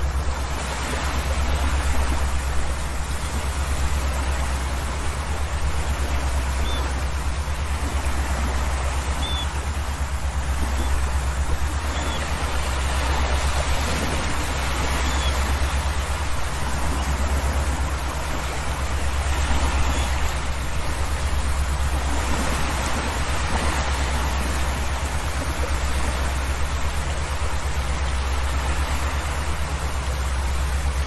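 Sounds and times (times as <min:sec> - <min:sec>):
ship engine drone: 0:00.0 - 0:31.0
water rushing past hull: 0:00.0 - 0:31.0.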